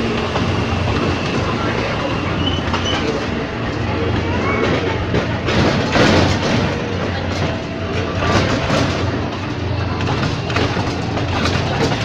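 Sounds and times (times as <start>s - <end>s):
train rolling rumble and rail clatter: 0.0s - 12.0s.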